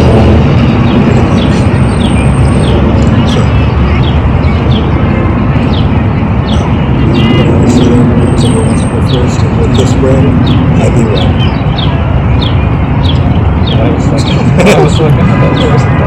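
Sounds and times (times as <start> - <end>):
birds chirping: 0.0 - 16.0
loud low rumble: 0.0 - 16.0.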